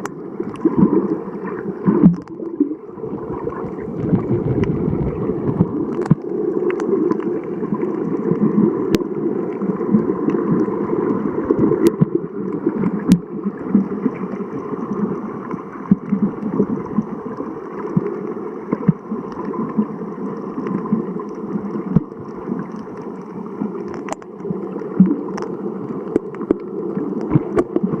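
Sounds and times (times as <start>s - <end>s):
underwater gurgling: 0.0s - 28.0s.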